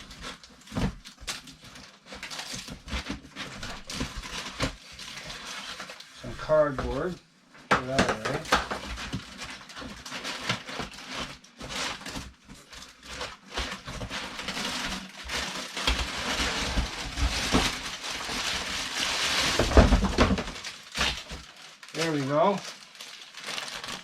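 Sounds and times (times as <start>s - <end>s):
cardboard rustling and crinkling: 0.0s - 7.2s, 7.8s - 24.0s.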